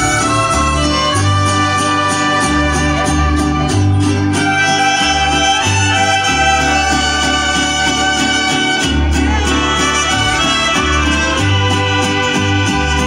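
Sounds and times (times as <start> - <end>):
mariachi band playing: 0.0 - 13.0.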